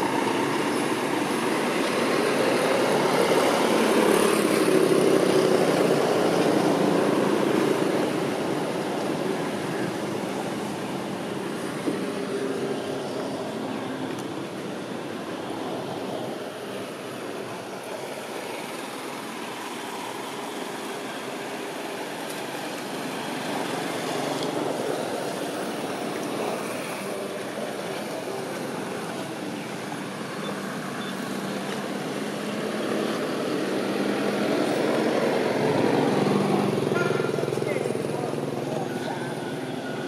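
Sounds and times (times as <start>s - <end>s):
motor traffic: 0.0s - 40.0s.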